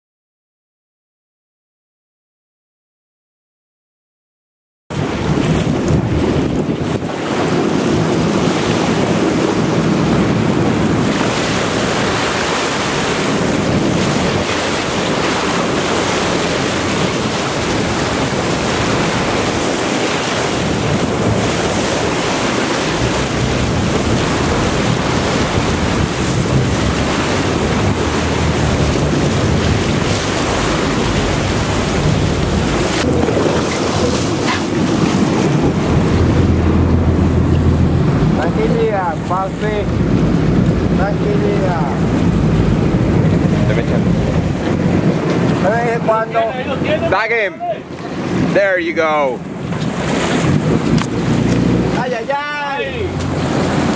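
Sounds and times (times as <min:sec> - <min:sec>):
boat engine droning: 0:04.9 - 0:53.9
sea water washing: 0:04.9 - 0:53.9
wind rush on microphone: 0:04.9 - 0:53.9.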